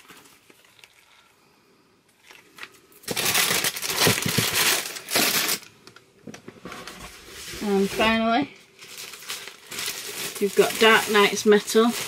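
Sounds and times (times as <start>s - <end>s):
packaging crinkling and rustling: 0.0s - 1.2s, 2.1s - 6.0s, 7.1s - 12.0s.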